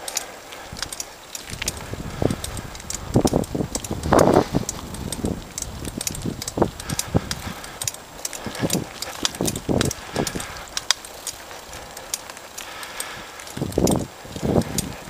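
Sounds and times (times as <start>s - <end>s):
bicycle rattling over rough path: 0.0s - 15.0s.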